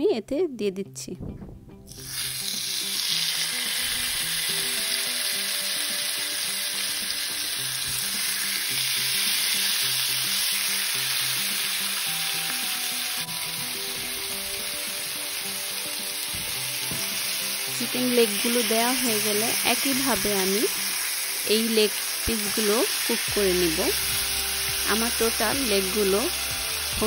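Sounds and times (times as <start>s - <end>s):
chicken sizzling in oil: 1.9s - 27.0s.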